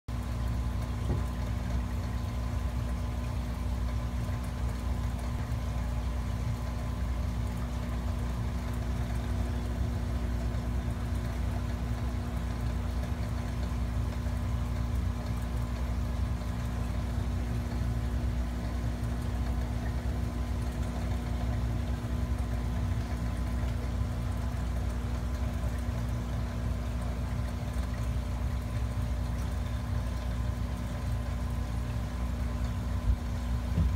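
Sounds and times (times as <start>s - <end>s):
aquarium equipment humming: 0.1s - 33.9s.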